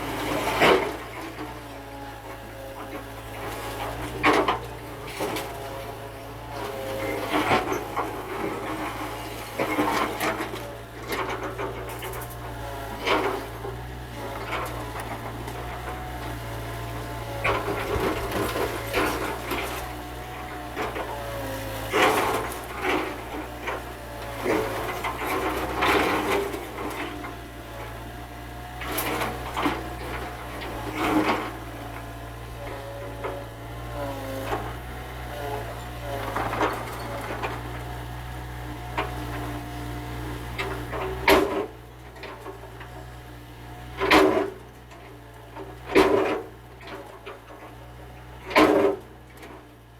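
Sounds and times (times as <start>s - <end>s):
excavator engine whining: 0.0s - 49.9s.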